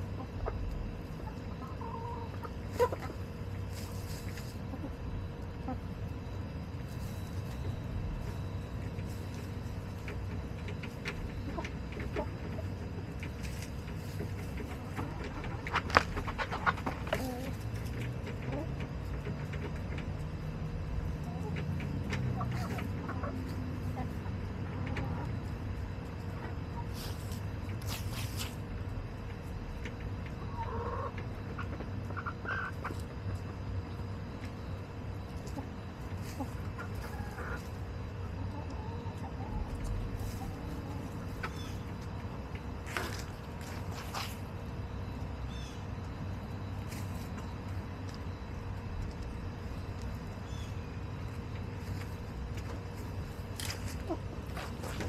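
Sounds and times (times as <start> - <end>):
faint hum: 0.0 - 55.0
hens clucking softly: 0.0 - 55.0
chickens scratching in litter: 0.1 - 55.0.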